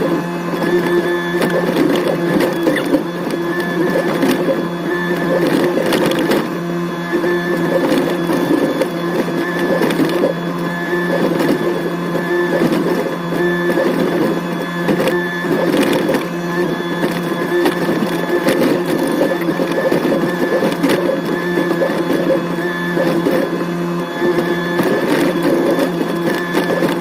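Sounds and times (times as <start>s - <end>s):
excavator engine running: 0.0s - 27.0s.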